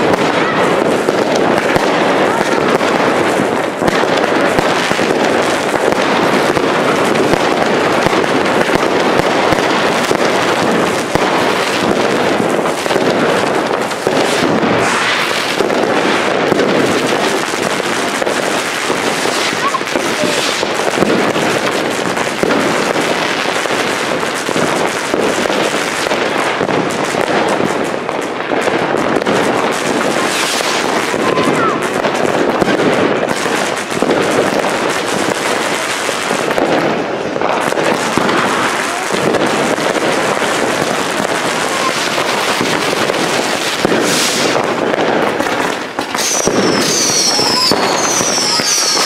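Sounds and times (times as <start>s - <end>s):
fireworks crackling and popping: 0.0s - 49.0s.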